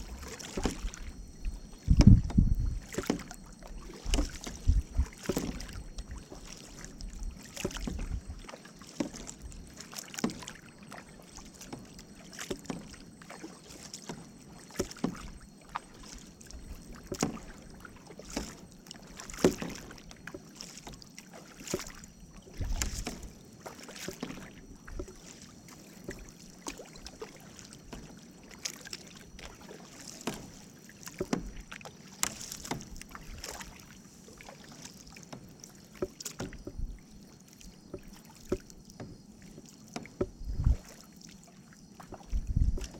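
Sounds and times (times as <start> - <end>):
paddles splashing in water: 0.0 - 42.9.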